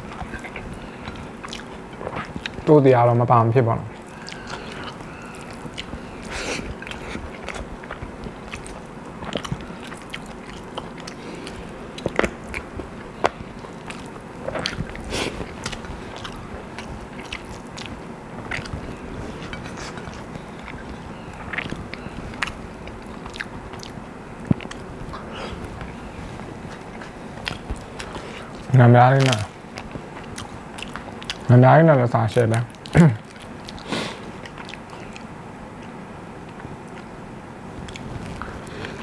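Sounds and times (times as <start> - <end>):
person chewing food: 0.0 - 2.7, 3.9 - 31.5, 32.3 - 37.2, 37.8 - 39.0.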